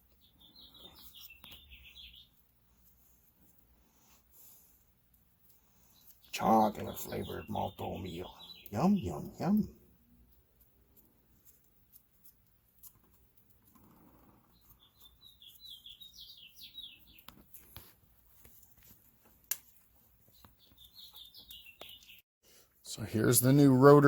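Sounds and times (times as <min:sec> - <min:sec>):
faint bird chirping: 0:00.0 - 0:12.2, 0:12.8 - 0:17.8, 0:20.1 - 0:22.2.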